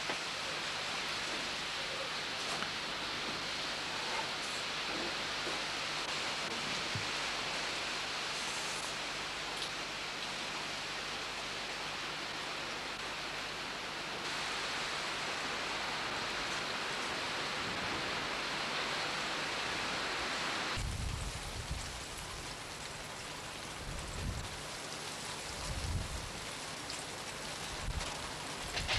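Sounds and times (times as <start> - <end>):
rain hissing: 0.0 - 28.9.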